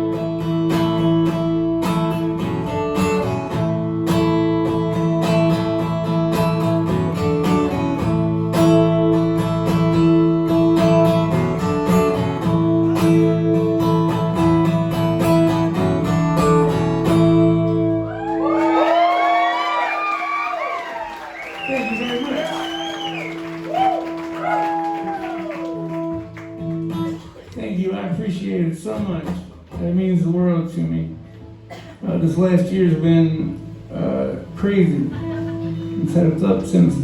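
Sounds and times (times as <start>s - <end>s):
acoustic guitar strumming: 0.0s - 18.2s, 21.7s - 37.0s.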